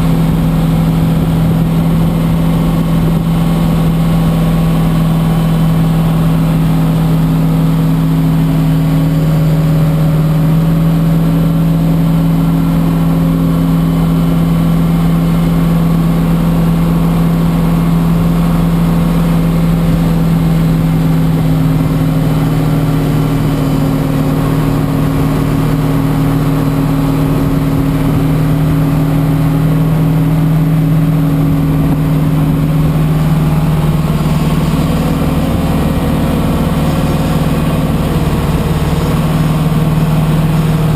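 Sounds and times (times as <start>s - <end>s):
tug engine droning: 0.0s - 40.9s.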